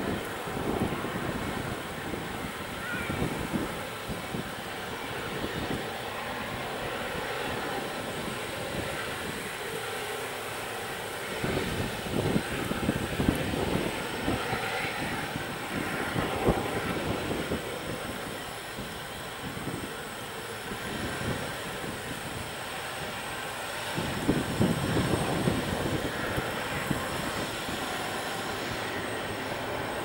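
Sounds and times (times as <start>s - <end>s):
diesel locomotive engine drone: 0.0s - 30.0s.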